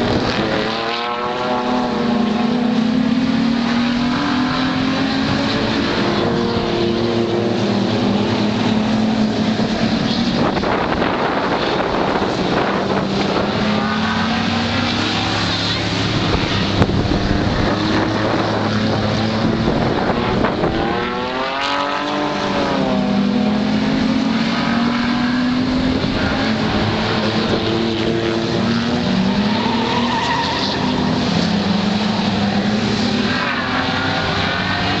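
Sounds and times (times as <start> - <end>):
race car engines revving: 0.0 - 35.0.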